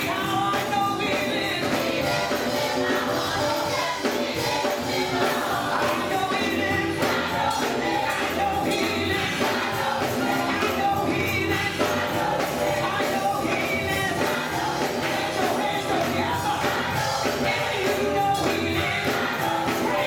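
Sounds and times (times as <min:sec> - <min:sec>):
gospel choir singing with band: 0:00.0 - 0:20.0
tambourine beat: 0:00.0 - 0:20.0.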